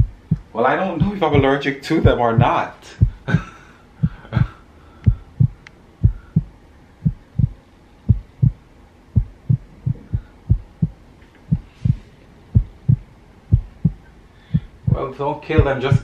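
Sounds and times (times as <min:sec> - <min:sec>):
heartbeat thumps: 0:00.0 - 0:16.0.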